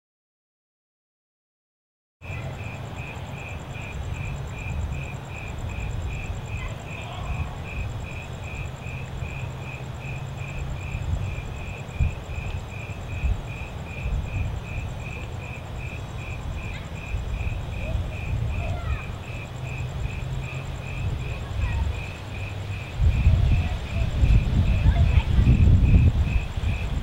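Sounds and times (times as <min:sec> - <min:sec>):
cricket chirping: 0:02.2 - 0:27.0
high insect trill: 0:02.2 - 0:27.0.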